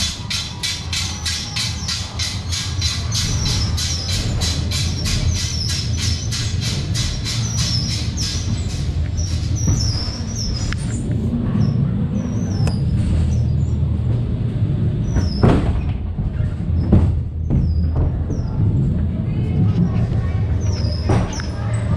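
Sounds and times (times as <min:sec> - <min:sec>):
ride car rumbling on track: 0:00.0 - 0:21.9.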